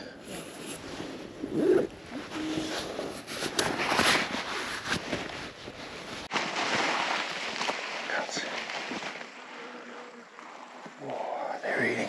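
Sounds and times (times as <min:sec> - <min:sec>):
fabric rustling on microphone: 0:00.3 - 0:11.0.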